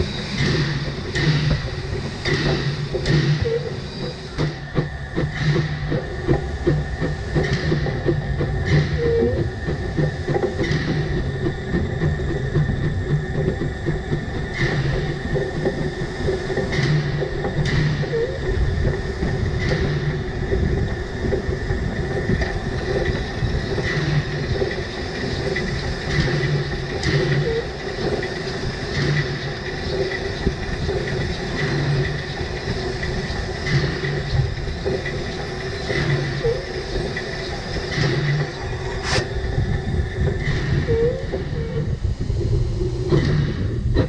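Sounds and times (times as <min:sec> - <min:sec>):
steam locomotive running: 0:00.0 - 0:44.0.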